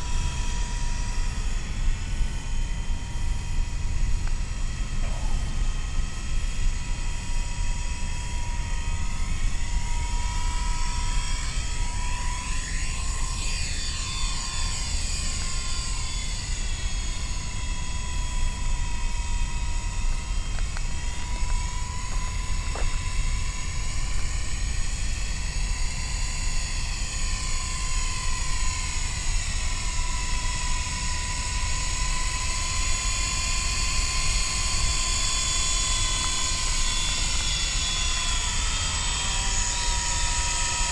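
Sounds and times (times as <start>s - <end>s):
rc helicopter motor whine: 0.0s - 40.9s.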